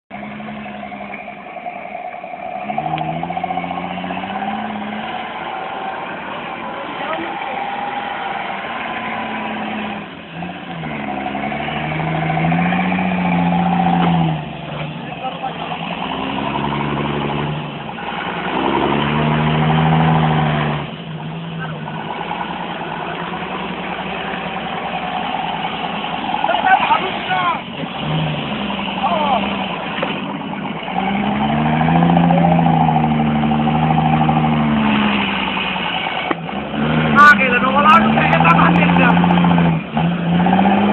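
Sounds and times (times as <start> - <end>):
off-road vehicle engine labouring: 0.0 - 40.9.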